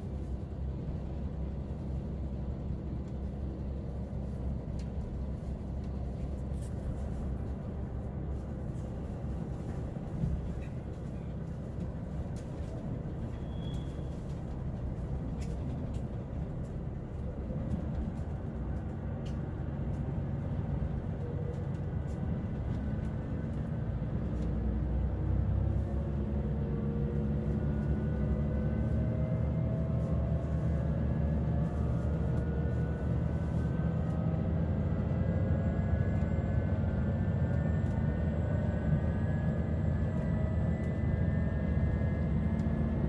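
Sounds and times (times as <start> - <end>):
vehicle rumble from inside: 0.0 - 43.0.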